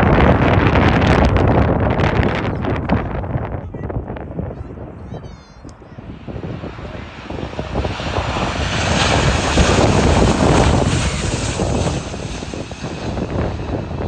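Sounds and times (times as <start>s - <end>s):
gusty wind buffeting microphone: 0.0s - 14.0s
jet engines passing overhead: 0.0s - 14.0s.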